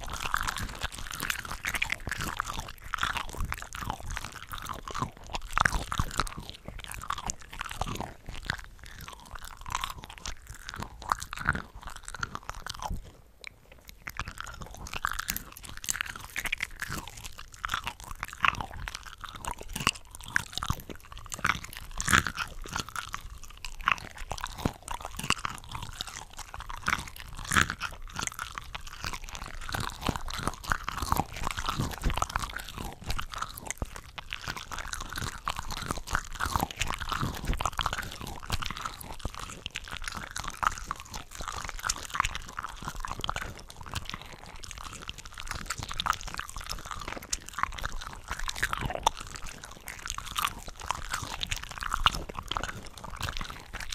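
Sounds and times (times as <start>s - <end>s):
crunchy chewing of shrimp: 0.0s - 53.9s.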